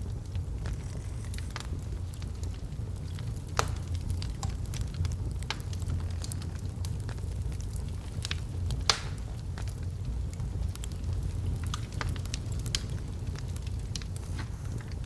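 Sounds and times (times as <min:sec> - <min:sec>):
fire crackles and pops: 0:00.0 - 0:15.0
log fire roaring: 0:00.0 - 0:15.0.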